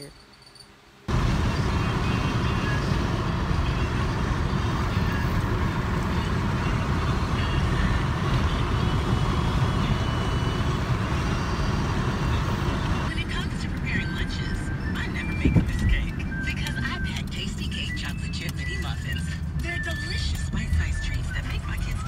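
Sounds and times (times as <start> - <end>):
road and wind noise in car: 0.7 - 22.0.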